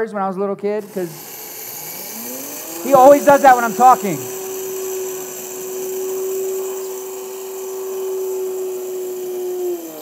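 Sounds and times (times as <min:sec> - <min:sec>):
blender running: 0:00.8 - 0:10.0.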